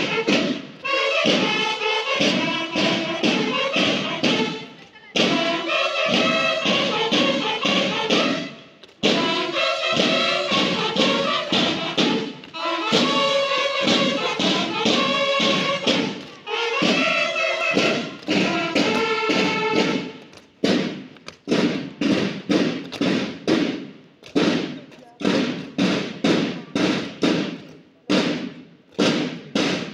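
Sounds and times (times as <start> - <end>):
bugles playing held notes: 0.0 - 29.9
snare drum beat: 0.0 - 29.9.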